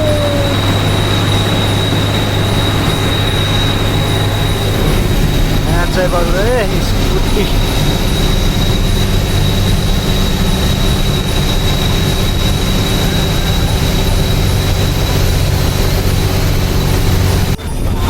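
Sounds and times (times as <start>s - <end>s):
thin high whine: 0.0s - 18.0s
truck engine droning: 0.0s - 18.0s.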